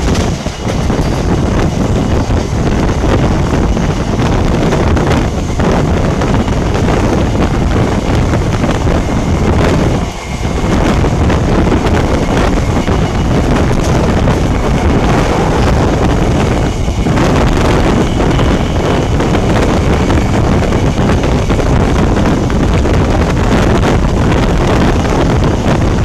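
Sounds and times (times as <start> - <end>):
train rumbling on rails: 0.0 - 26.0
wind buffeting microphone: 0.0 - 26.0.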